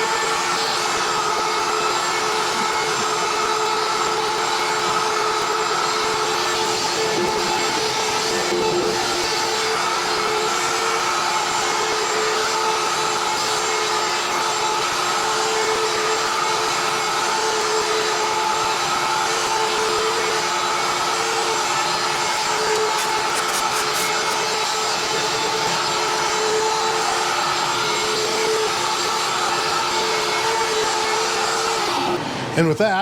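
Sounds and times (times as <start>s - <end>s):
router spindle whining: 0.0s - 32.6s.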